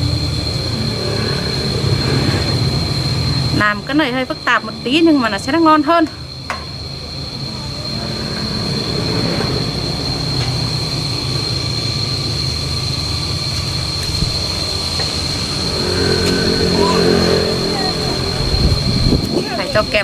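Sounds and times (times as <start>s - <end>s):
deeper engine note: 0.0s - 5.7s, 6.9s - 20.0s
high-pitched whine: 0.0s - 20.0s
motor low rumble: 0.0s - 20.0s.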